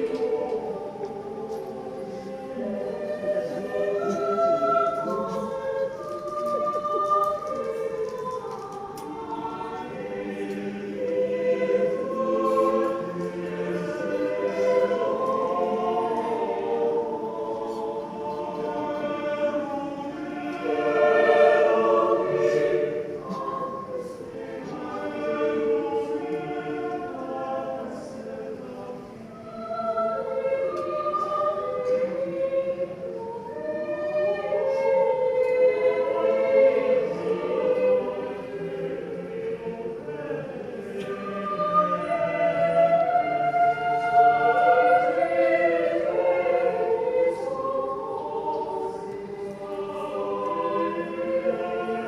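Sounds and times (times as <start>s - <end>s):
choir singing in harmony: 0.0s - 52.0s.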